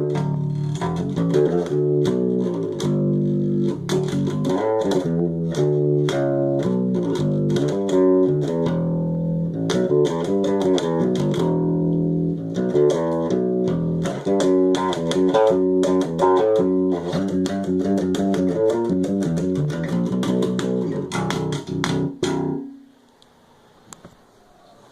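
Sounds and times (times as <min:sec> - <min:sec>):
electric bass guitar groove: 0:00.0 - 0:22.8
music: 0:00.0 - 0:23.0.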